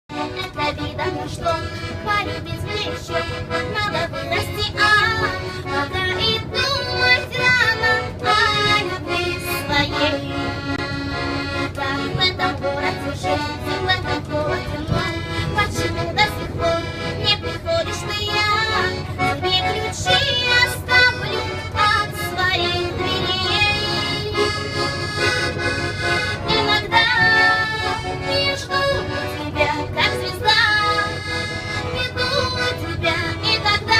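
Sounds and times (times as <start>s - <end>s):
woman singing: 0.1s - 10.6s, 11.6s - 24.6s, 26.5s - 33.9s.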